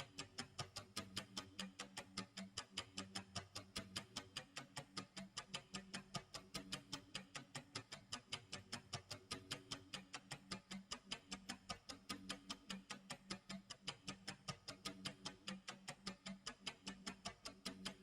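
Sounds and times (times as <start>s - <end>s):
rapid clock ticks: 0.0s - 18.0s.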